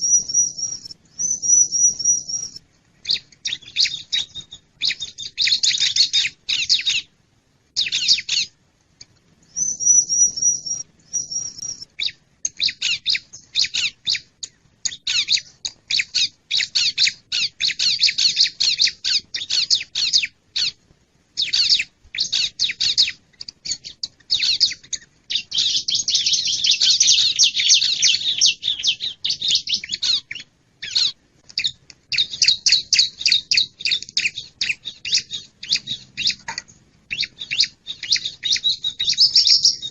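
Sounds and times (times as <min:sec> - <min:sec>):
bird chirping rapidly: 0:00.0 - 0:07.1, 0:07.8 - 0:08.6, 0:09.5 - 0:14.3, 0:14.9 - 0:20.8, 0:21.4 - 0:39.9
thin whistled bird notes: 0:00.0 - 0:07.1, 0:09.5 - 0:20.7, 0:21.4 - 0:36.5, 0:37.1 - 0:39.9.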